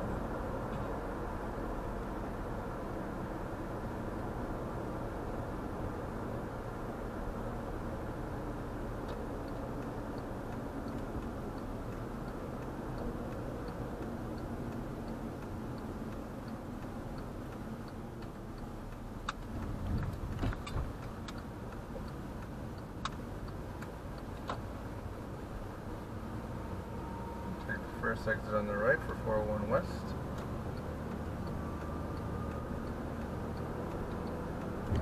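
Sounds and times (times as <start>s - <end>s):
road and engine noise: 0.0s - 35.0s
turn signal ticking: 0.0s - 35.0s.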